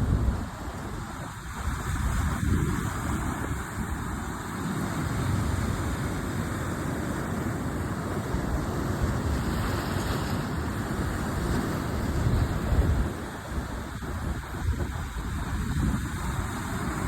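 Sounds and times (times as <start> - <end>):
sea waves washing on shore: 0.0 - 17.0
wind gusting against microphone: 0.0 - 17.0.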